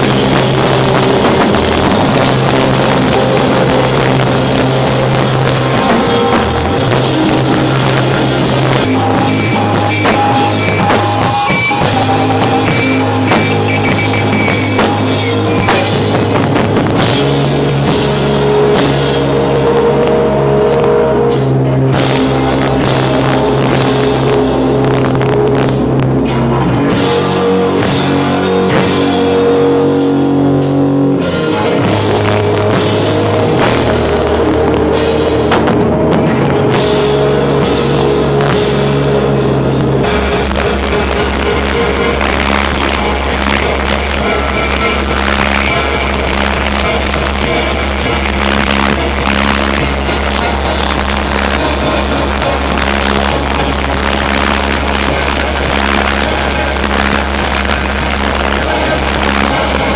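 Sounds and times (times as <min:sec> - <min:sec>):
bass guitar: 0:00.0 - 0:59.9
distorted electric guitars: 0:00.0 - 0:59.9
drum kit with cymbals: 0:00.0 - 0:59.9.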